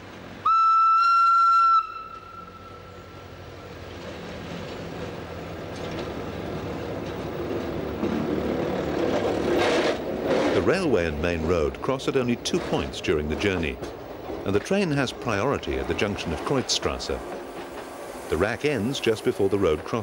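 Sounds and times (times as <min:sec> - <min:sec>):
railcar rumble: 0:00.0 - 0:20.0.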